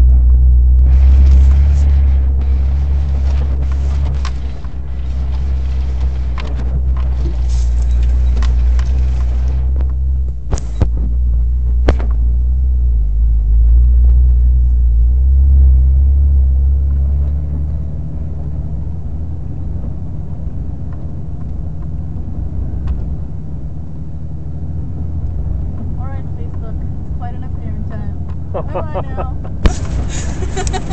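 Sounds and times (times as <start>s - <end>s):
engine and drivetrain rumble: 0.0s - 30.9s.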